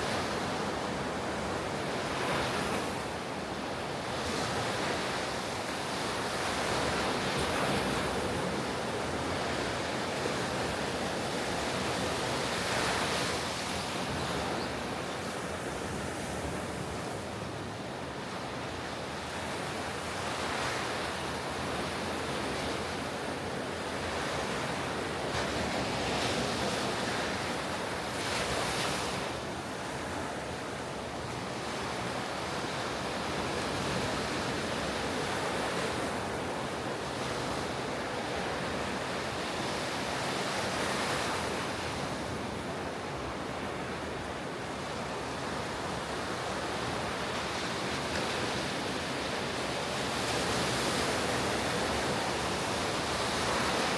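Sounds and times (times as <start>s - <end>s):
ocean waves breaking on beach: 0.0s - 53.9s.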